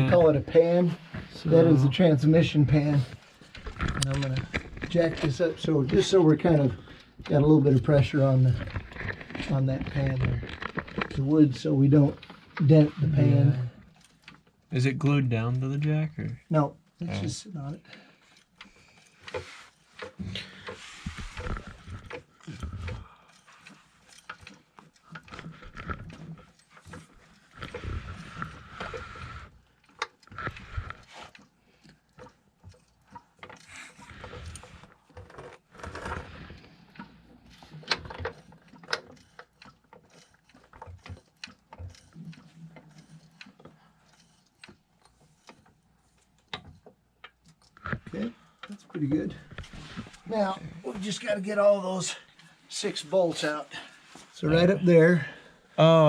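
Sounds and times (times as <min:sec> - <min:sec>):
jack pumping with creaking: 0:00.0 - 0:56.0
sharp mechanical clicks: 0:02.2 - 0:49.7.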